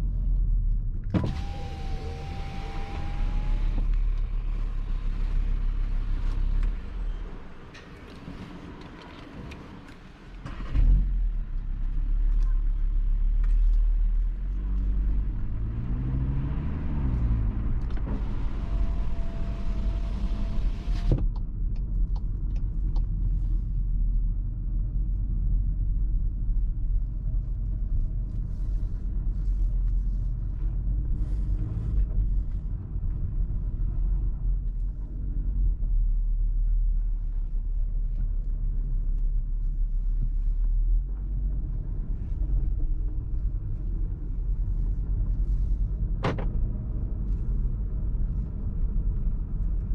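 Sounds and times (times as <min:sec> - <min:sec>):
car engine accelerating: 0:01.0 - 0:08.5, 0:10.3 - 0:23.6, 0:26.8 - 0:49.9.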